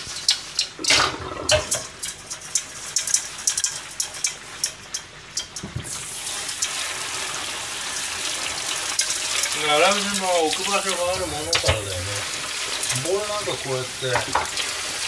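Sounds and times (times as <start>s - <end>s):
tap water running: 0.0s - 15.0s.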